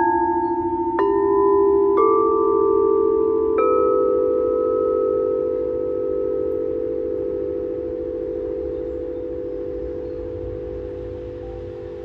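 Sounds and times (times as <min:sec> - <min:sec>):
singing bowls ringing: 0:00.0 - 0:12.0.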